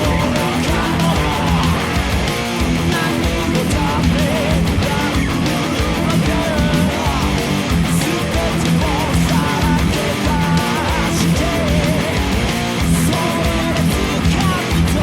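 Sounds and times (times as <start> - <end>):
electric guitar playing: 0.0 - 15.0
heavy metal music: 0.0 - 15.0.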